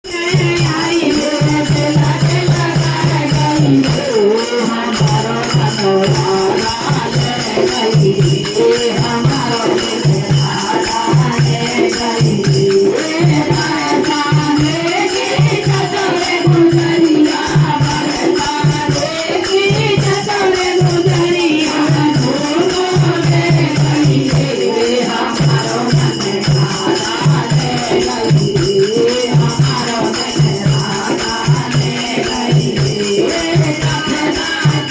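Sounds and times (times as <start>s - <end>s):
rattling percussion: 0.0s - 34.9s.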